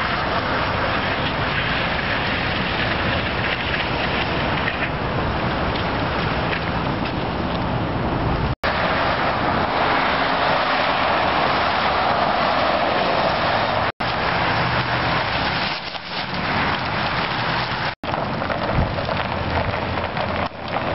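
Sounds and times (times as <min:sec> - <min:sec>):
low engine hum: 0:00.0 - 0:20.9
road and tyre noise: 0:00.0 - 0:20.9.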